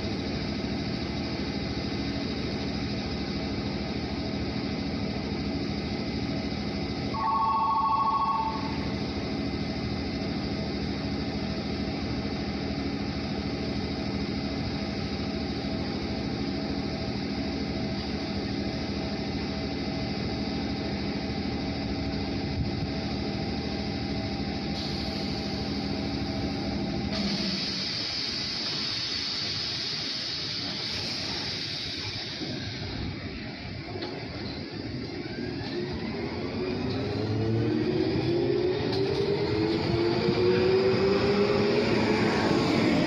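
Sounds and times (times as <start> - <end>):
train equipment humming: 0.0 - 43.0.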